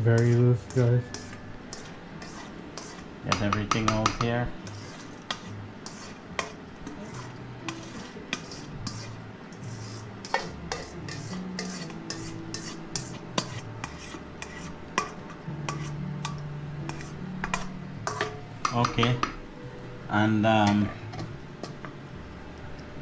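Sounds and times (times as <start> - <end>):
spoon scraping a metal bowl: 0.0 - 19.4.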